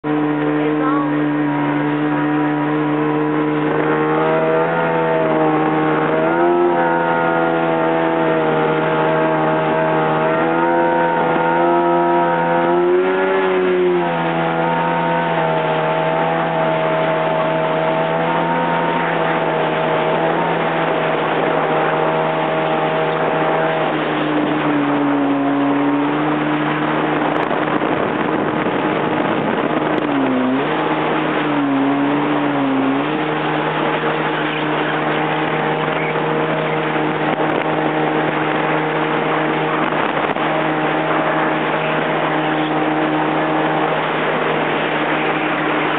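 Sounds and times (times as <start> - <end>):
jet ski engine running fast: 0.0 - 45.9
rush of wind and water: 0.0 - 45.9.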